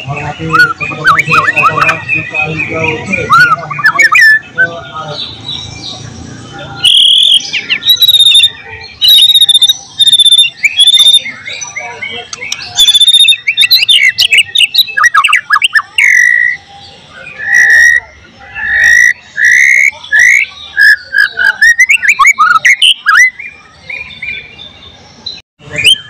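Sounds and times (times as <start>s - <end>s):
songbird singing whistled notes: 0.0s - 26.0s.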